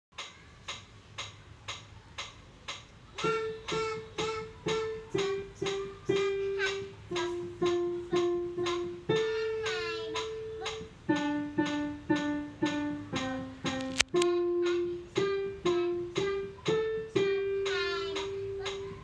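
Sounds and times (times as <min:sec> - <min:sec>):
digital piano notes: 0:00.2 - 0:19.0
metronome clicking: 0:00.2 - 0:19.0.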